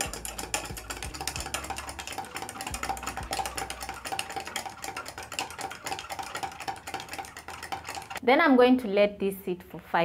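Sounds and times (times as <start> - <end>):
spoon clicking against jug: 0.0 - 8.2.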